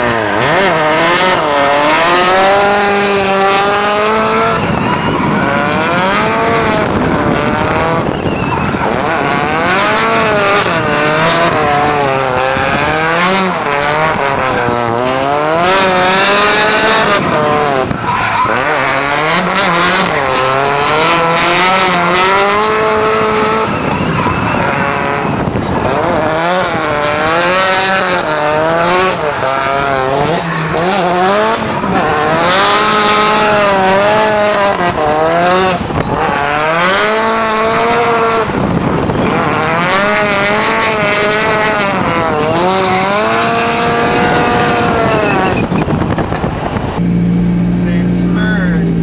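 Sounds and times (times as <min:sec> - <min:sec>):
car engine revving hard: 0:00.0 - 0:49.0.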